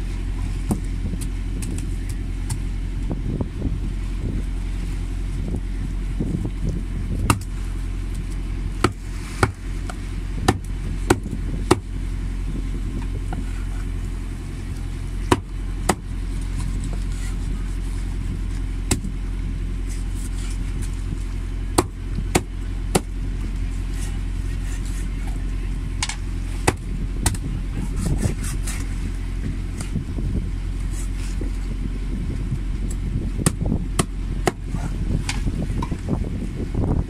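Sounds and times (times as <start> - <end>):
engine idling hum: 0.0 - 37.0.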